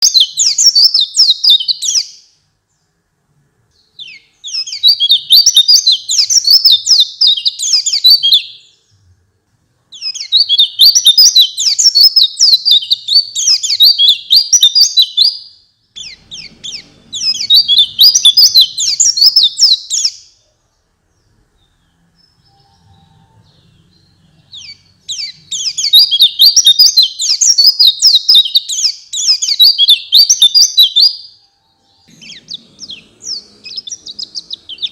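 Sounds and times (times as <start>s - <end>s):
bird twittering: 0.0s - 2.3s, 3.8s - 8.9s, 9.9s - 20.4s, 21.2s - 34.9s.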